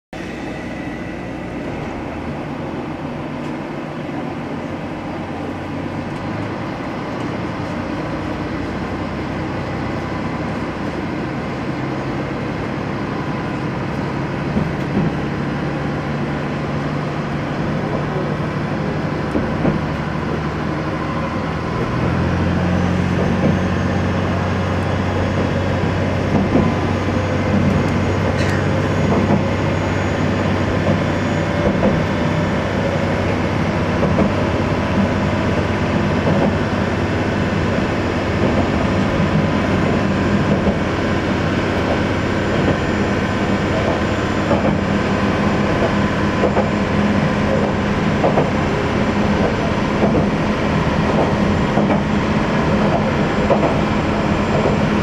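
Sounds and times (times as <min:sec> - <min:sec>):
diesel railcar engine drone: 0:00.1 - 0:55.0
wheels clacking on rails: 0:01.3 - 0:55.0.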